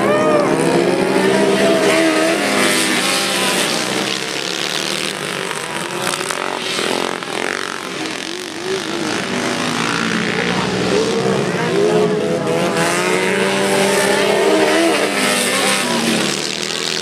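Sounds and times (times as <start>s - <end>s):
lawn tractor engines racing past: 0.0s - 17.0s.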